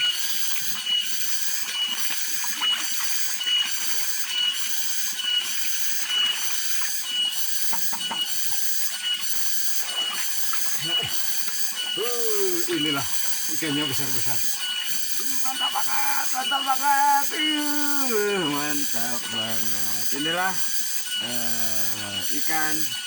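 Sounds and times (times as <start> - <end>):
cicada buzzing drone: 0.0 - 23.0.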